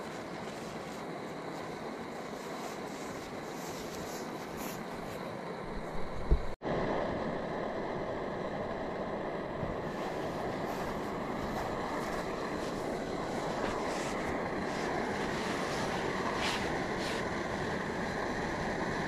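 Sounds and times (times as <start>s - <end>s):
gas stove burning: 0.0s - 19.0s
kettle steaming: 0.0s - 19.0s.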